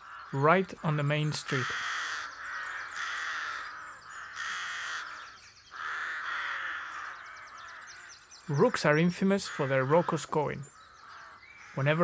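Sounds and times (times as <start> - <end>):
rooks cawing: 0.0 - 12.0.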